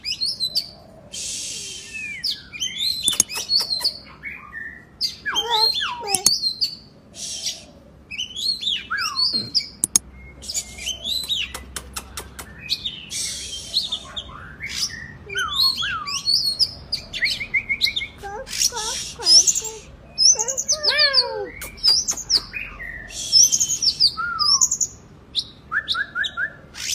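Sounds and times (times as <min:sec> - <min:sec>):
songbird singing whistled notes: 0:00.0 - 0:11.6, 0:12.4 - 0:18.2, 0:19.3 - 0:26.9.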